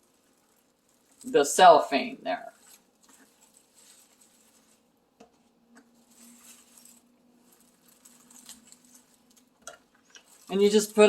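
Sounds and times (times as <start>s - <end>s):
soft rustle: 0.0s - 11.0s.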